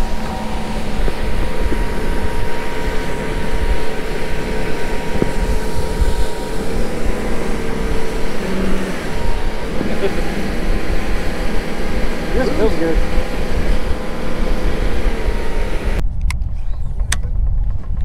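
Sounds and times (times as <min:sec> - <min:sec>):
water rushing over hull: 0:00.0 - 0:16.0
outboard motor drone: 0:00.0 - 0:18.0
wind: 0:00.0 - 0:18.0.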